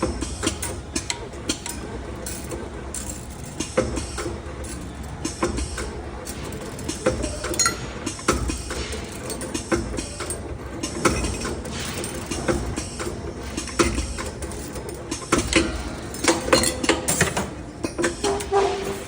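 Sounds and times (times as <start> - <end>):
metallic clicks and clanks: 0.0 - 19.0
wire bending machine motors: 0.0 - 19.0.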